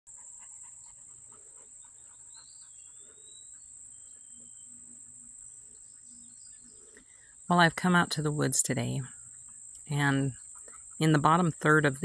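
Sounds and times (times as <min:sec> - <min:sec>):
high-pitched insect chorus: 0:00.2 - 0:11.7.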